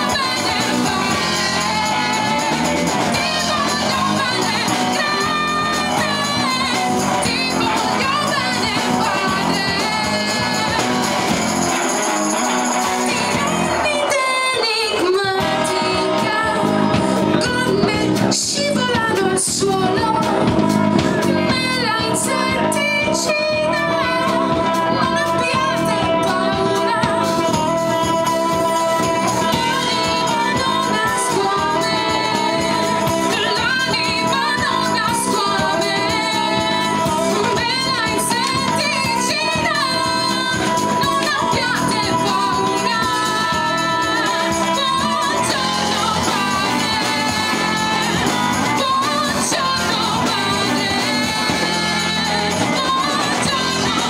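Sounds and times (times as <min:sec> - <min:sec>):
rock band playing: 0:00.0 - 0:54.0
woman singing: 0:00.0 - 0:54.0.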